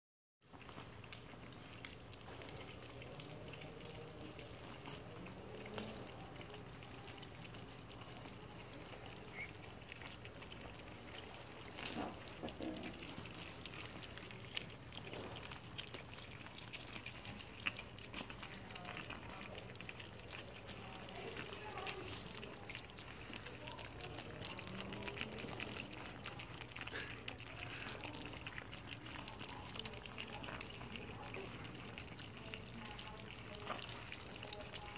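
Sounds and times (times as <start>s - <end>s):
puppies lapping and slurping: 0.4s - 34.9s.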